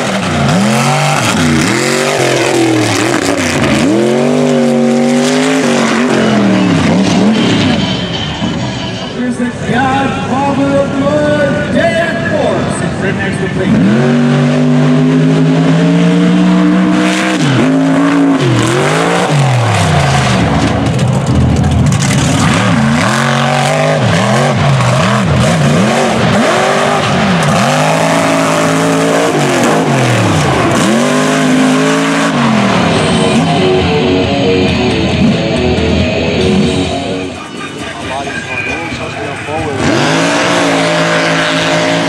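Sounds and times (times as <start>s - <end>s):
truck engine revving: 0.0s - 42.0s.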